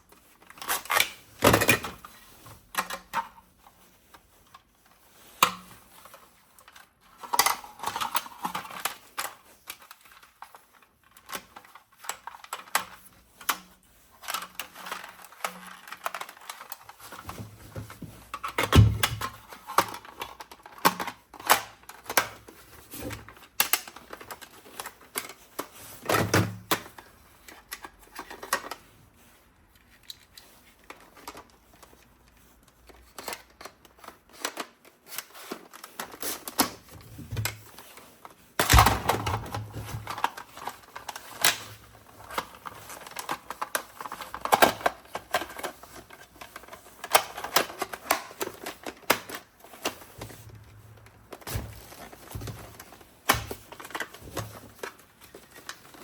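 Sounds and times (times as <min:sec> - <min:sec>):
hands handling plastic toy: 0:00.0 - 0:56.0.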